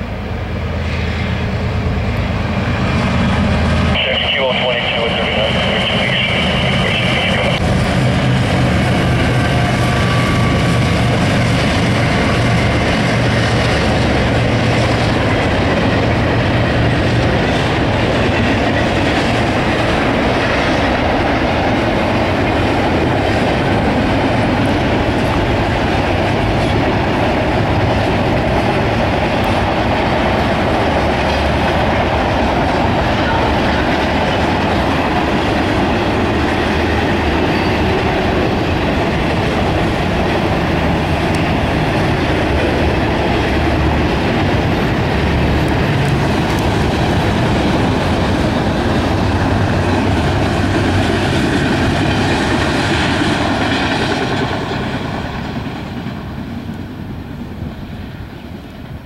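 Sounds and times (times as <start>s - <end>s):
diesel locomotive engine drone: 0.0s - 59.0s
train wheels clickety-clack on rails: 0.0s - 59.0s.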